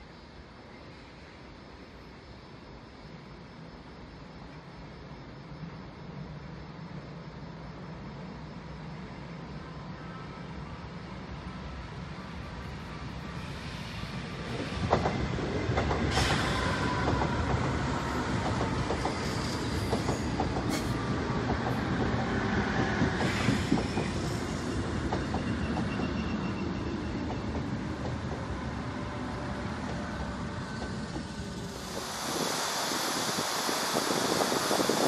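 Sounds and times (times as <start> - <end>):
train low rumble: 0.0 - 35.0.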